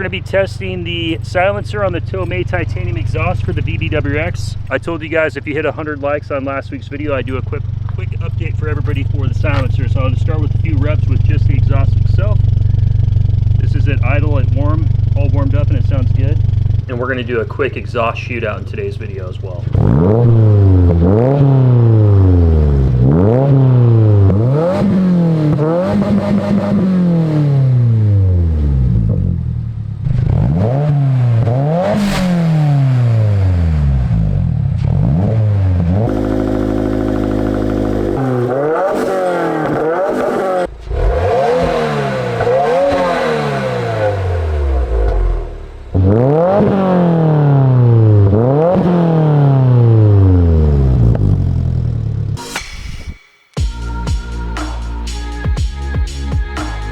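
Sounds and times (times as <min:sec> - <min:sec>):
car engine revving: 0:00.0 - 0:52.5.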